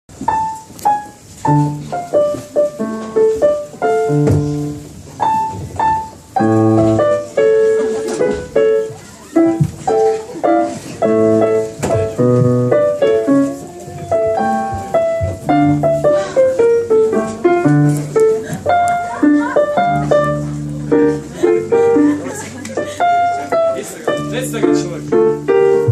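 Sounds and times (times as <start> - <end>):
piano playing melody: 0.1 - 25.9.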